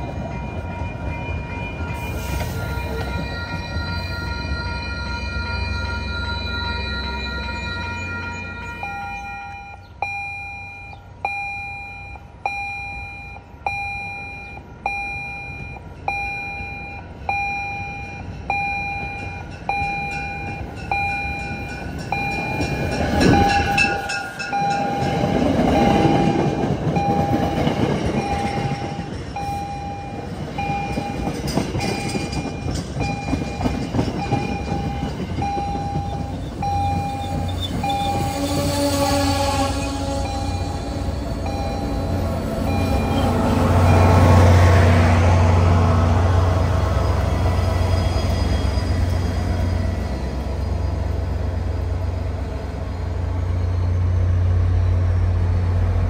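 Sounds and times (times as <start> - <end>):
train wheels rumbling: 0.0 - 12.0, 13.2 - 56.0.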